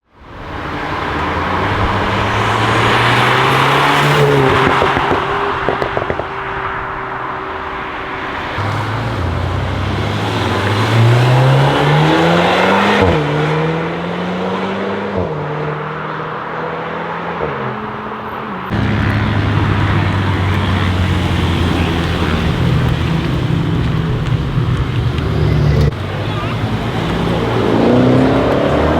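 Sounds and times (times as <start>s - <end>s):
car engine accelerating hard: 0.4s - 28.9s.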